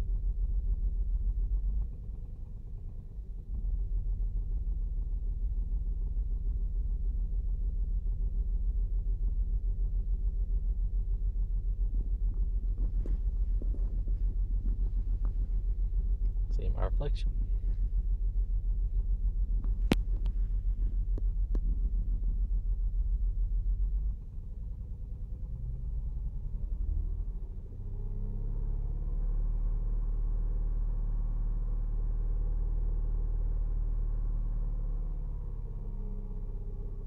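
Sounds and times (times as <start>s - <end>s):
car engine idling unevenly: 0.0s - 37.0s.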